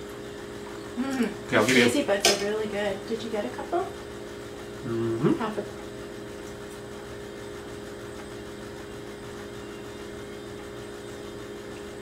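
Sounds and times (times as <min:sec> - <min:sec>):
electric appliance motor hum: 0:00.0 - 0:12.0.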